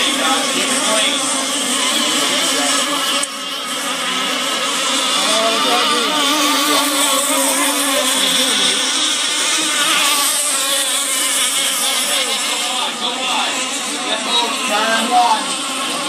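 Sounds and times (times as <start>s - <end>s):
racing boat engine running: 0.0s - 16.0s.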